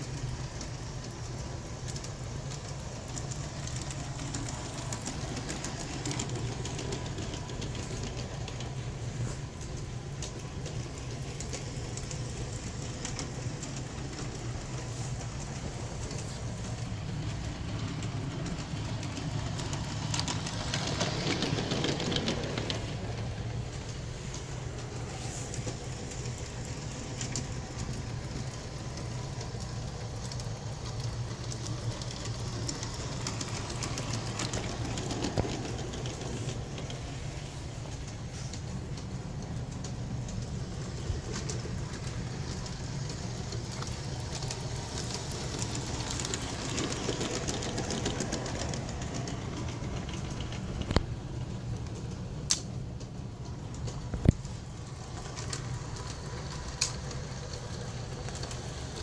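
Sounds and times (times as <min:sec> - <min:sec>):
wheels clicking on rails: 0:00.0 - 0:59.0.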